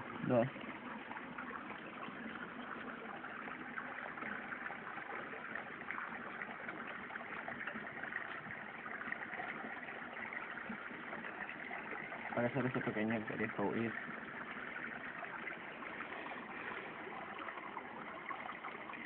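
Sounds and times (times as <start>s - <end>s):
stream water flowing over rocks: 0.0s - 19.0s.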